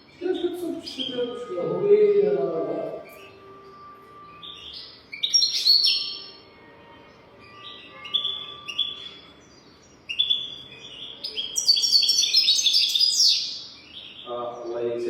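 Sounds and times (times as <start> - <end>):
goldfinch twittering: 0.0 - 3.5, 4.3 - 6.4, 7.4 - 15.0.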